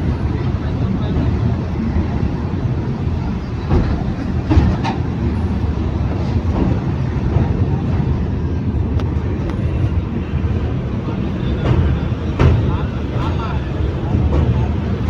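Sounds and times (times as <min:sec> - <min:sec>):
sharp clacks of train wheels: 0:00.0 - 0:15.0
train wheels rumbling on rails: 0:00.0 - 0:15.0.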